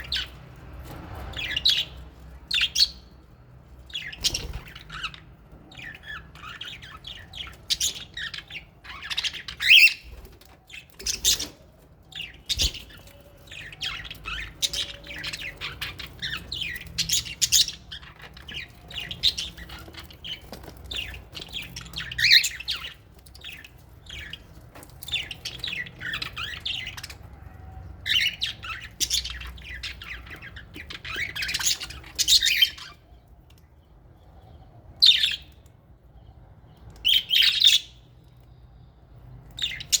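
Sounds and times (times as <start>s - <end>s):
parrots chirping and squawking: 0.0s - 33.4s, 36.9s - 38.1s, 39.4s - 40.0s.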